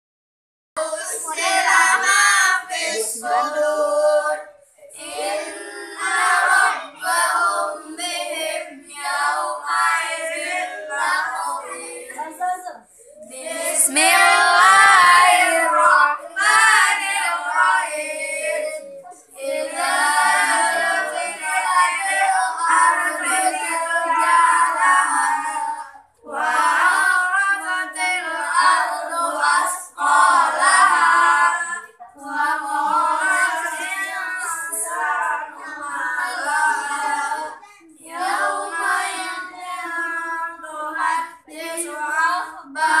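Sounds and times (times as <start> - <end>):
boys singing melodic chant: 0.8 - 43.0.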